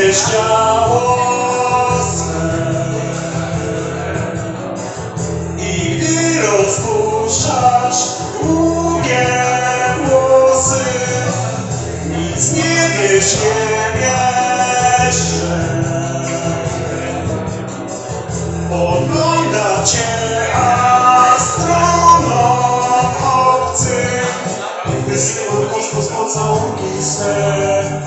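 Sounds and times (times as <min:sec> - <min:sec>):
amplified backing track: 0:00.0 - 0:28.0
man singing through a microphone: 0:00.0 - 0:28.0.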